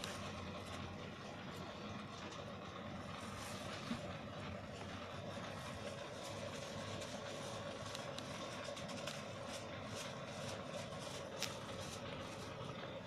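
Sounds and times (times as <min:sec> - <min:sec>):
faint constant tone: 0:00.0 - 0:13.0
mechanical hum: 0:00.0 - 0:13.0.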